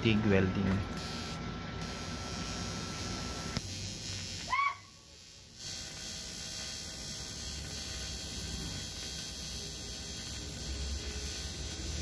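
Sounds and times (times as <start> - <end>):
welding arc hissing: 1.0 - 12.0.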